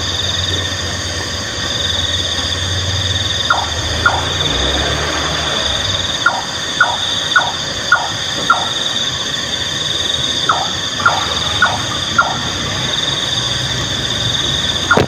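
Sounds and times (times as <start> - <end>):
nightjar calling: 1.8 - 15.0
high-pitched drone: 2.8 - 15.0.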